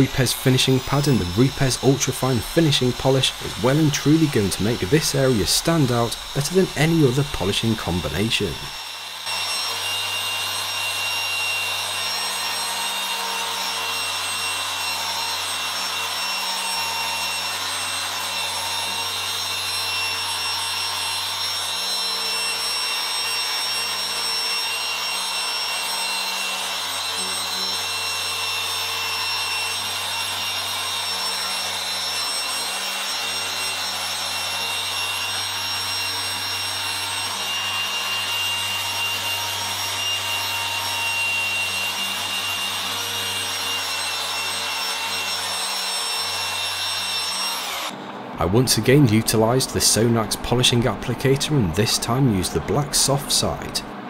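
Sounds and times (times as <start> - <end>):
machine polisher motor whine: 0.0 - 48.1.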